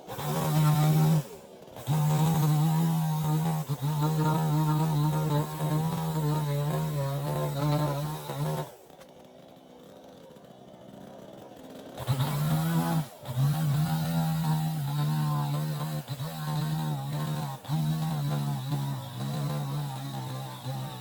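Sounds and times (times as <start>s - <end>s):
chainsaw running at high revs: 0.0s - 21.0s.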